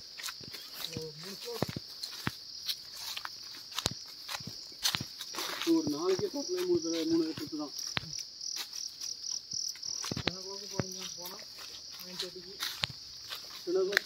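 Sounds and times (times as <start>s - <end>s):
shrill insect chorus: 0.0s - 14.0s.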